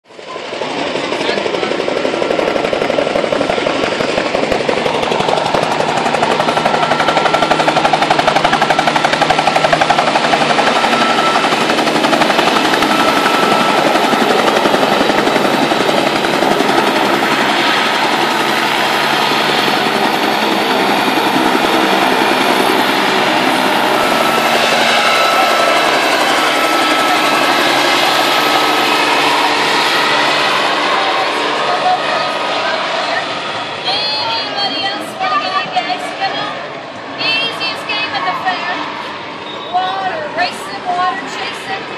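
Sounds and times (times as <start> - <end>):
helicopter rotor chop and engine: 0.0 - 41.9.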